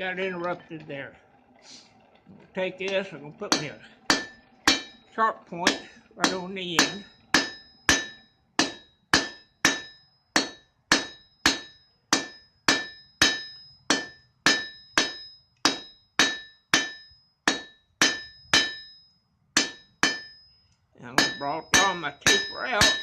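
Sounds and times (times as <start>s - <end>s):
hammer blows on an anvil: 3.0s - 19.0s, 19.6s - 20.5s, 21.1s - 23.0s.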